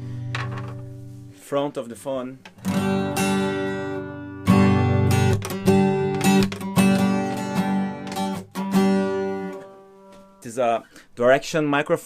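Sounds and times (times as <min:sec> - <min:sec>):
acoustic guitar strumming: 0:00.0 - 0:01.4, 0:02.5 - 0:11.0.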